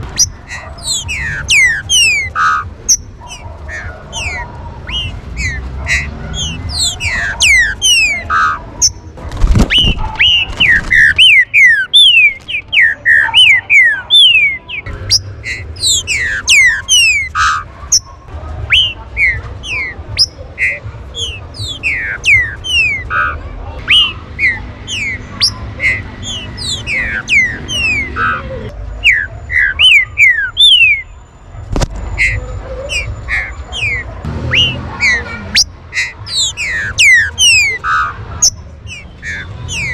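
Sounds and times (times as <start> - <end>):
bird whistling sharp notes: 0.2 - 9.0, 9.6 - 18.1, 18.7 - 23.1, 23.9 - 28.3, 29.0 - 31.1, 32.2 - 39.9.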